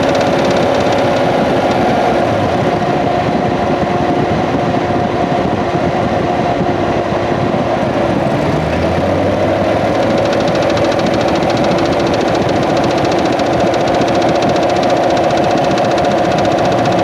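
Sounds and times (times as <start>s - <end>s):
car engine running: 0.0s - 4.0s, 7.1s - 17.0s.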